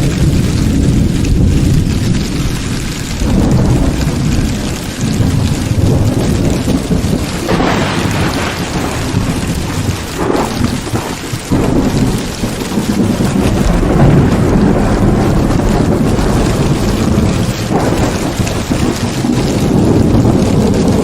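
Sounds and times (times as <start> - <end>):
heavy rain pouring: 0.0 - 21.0
low thunder rumbling: 0.0 - 21.0.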